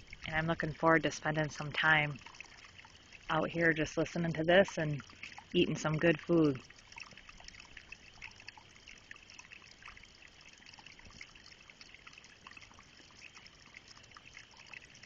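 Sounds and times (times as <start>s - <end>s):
small stream trickling: 0.0s - 15.0s.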